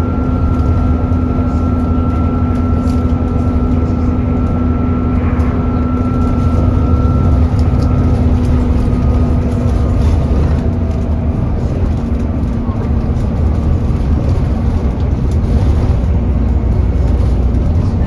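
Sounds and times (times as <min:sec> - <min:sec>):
bus engine rumble: 0:00.0 - 0:18.0
loud steady bus whine: 0:00.0 - 0:18.0.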